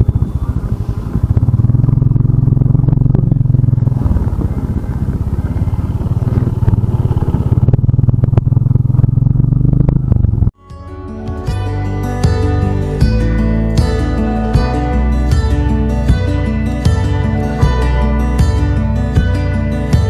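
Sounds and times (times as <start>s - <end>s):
motorcycle engine running: 0.0s - 10.6s, 11.4s - 20.0s.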